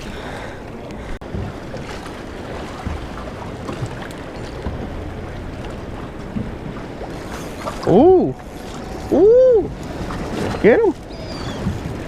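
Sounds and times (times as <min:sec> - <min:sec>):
water and waves: 0:00.0 - 0:12.0.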